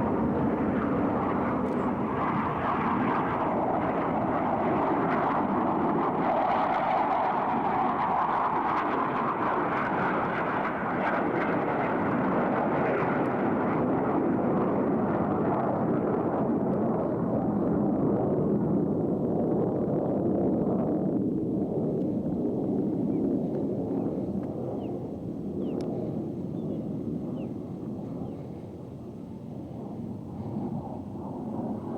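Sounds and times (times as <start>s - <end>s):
jet engines rushing: 0.0s - 31.9s.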